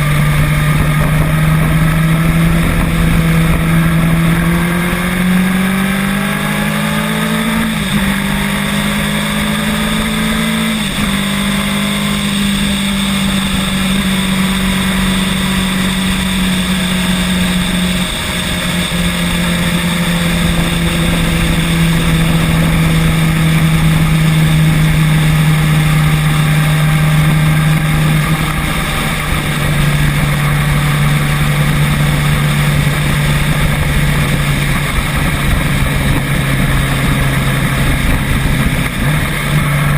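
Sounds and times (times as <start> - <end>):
vehicle engine changing gears: 0.0 - 39.9.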